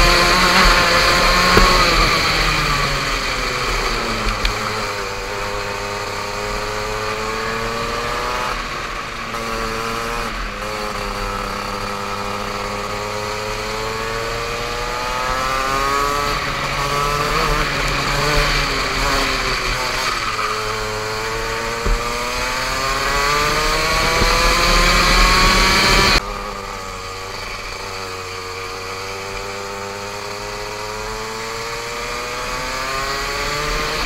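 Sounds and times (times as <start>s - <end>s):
racing kart engine: 0.0s - 34.0s.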